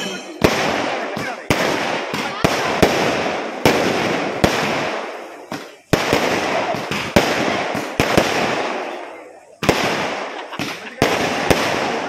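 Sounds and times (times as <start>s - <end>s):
fireworks bangs: 0.0s - 12.0s
fireworks crackling rumble: 0.0s - 12.0s.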